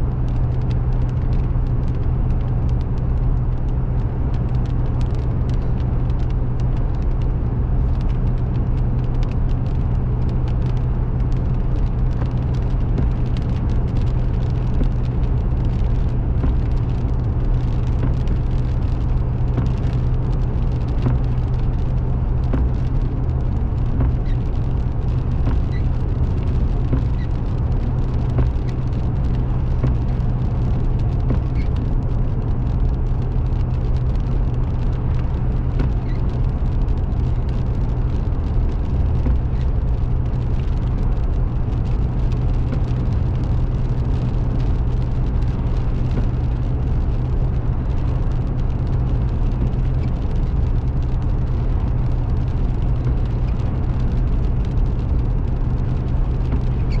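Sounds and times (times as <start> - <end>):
car road and engine noise: 0.0 - 57.0
constant low hum: 0.0 - 57.0.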